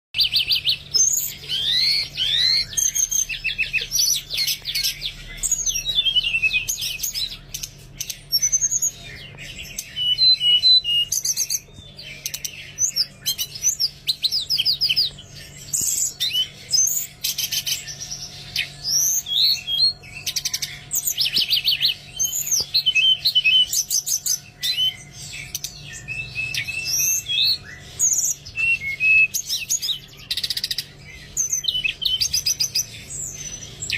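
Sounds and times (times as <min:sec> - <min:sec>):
songbird trilling and whistling: 0:00.2 - 0:33.9.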